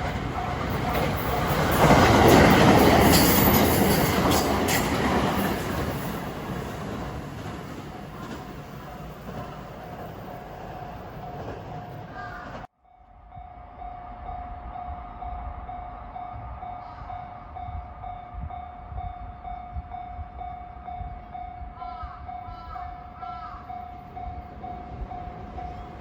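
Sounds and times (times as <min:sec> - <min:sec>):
level-crossing warning bell: 0:00.0 - 0:08.8, 0:12.8 - 0:26.0
electric train passing: 0:00.0 - 0:26.0.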